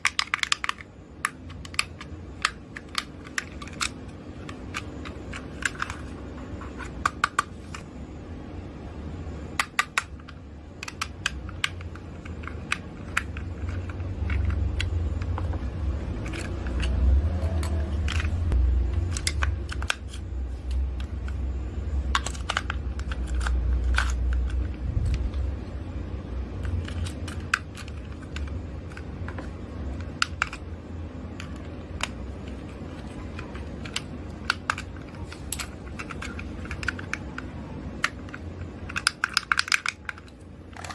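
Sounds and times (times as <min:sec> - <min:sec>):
plastic parts and packaging clicking: 0:00.0 - 0:07.8, 0:09.6 - 0:25.5, 0:26.5 - 0:40.9.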